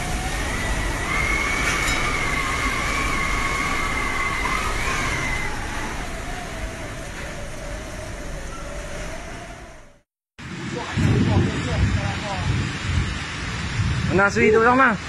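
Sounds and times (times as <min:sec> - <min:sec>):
high-pitched wind howl: 0:00.0 - 0:15.0
storm wind through palms: 0:00.0 - 0:15.0.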